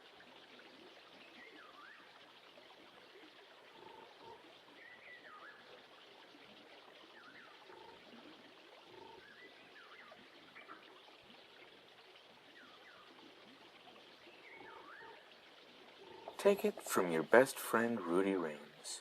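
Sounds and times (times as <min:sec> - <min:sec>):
trickling stream: 0:00.0 - 0:19.0.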